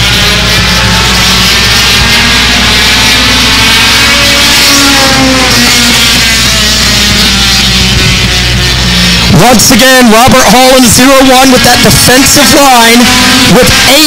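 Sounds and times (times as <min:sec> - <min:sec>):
race car engines passing: 0:00.0 - 0:14.0.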